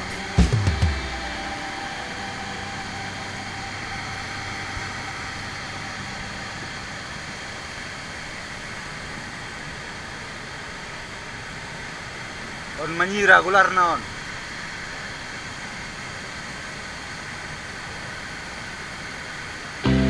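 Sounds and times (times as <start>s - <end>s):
waterfall and river rushing: 0.0s - 19.9s.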